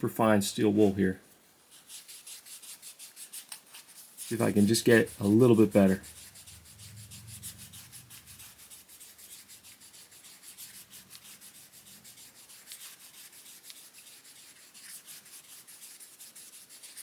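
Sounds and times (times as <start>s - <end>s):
steel wool rubbing on brass: 1.6s - 17.0s.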